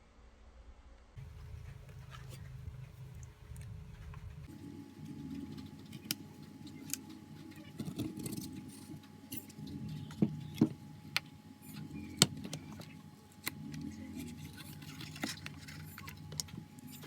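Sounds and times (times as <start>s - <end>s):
low rubbing of handling: 1.2s - 17.0s.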